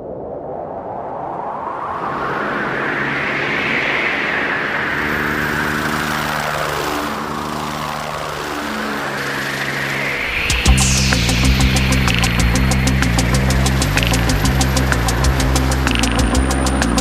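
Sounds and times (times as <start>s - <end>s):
rushing aircraft noise: 0.0s - 17.0s.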